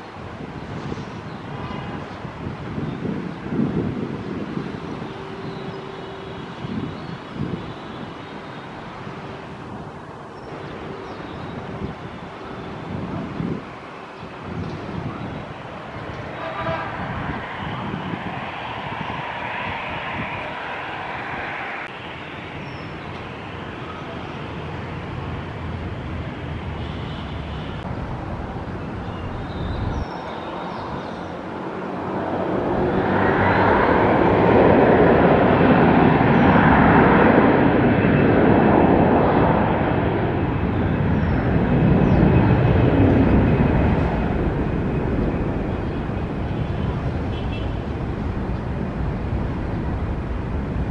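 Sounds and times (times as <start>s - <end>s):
jet engines rushing: 0.0s - 50.9s.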